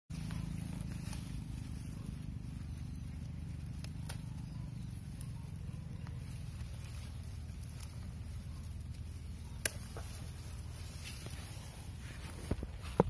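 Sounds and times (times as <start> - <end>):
grass and vines rustling: 0.1 - 13.0
steady low hum: 0.1 - 13.0.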